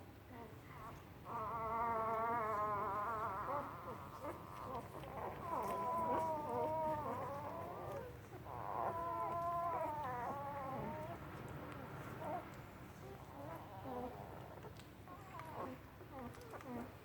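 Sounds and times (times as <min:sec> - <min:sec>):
puppies whining: 0:00.3 - 0:17.0.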